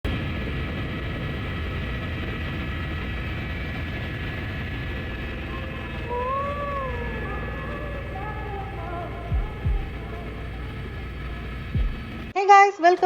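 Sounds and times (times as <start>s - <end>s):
helicopter engine and rotor drone: 0.0s - 12.4s
thin steady whine: 0.0s - 12.4s.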